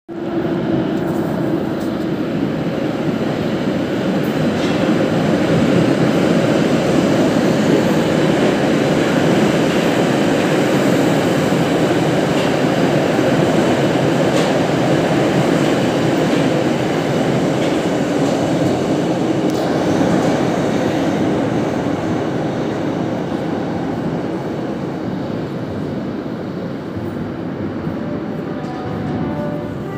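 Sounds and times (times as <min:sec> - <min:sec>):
train wheels rumbling on rails: 0:00.1 - 0:29.9.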